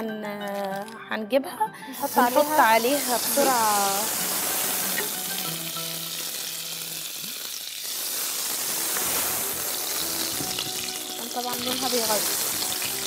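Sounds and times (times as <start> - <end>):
butter sizzling in frying pan: 2.0 - 13.0.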